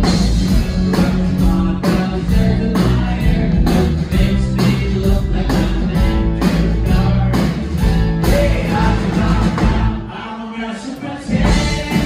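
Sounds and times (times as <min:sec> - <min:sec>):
drums beating: 0:00.0 - 0:10.1, 0:11.3 - 0:12.0
guitar and keyboards: 0:00.0 - 0:10.1, 0:11.1 - 0:12.0
man singing: 0:00.5 - 0:12.0.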